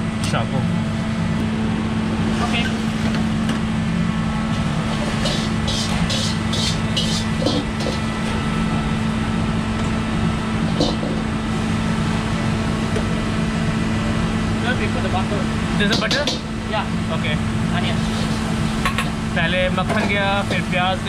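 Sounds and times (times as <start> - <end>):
low hum: 0.0 - 19.7
gas burners roaring: 0.0 - 21.0.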